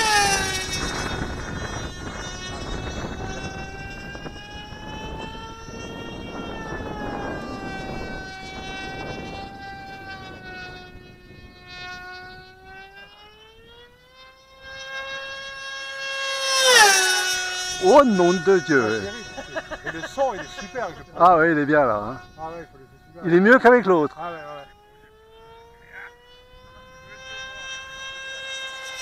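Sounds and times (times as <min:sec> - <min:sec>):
model plane engine screaming: 0:00.0 - 0:29.0.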